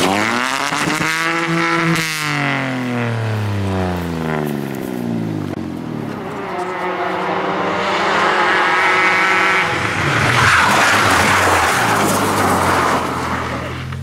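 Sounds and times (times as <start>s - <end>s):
rally car approaching at high revs: 0.0s - 14.0s
rally car driving away: 0.0s - 14.0s.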